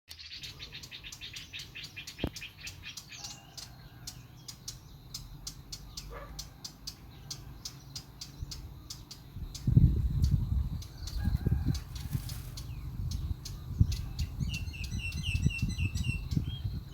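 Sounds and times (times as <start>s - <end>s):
bird chirping rapidly: 0.1s - 16.9s.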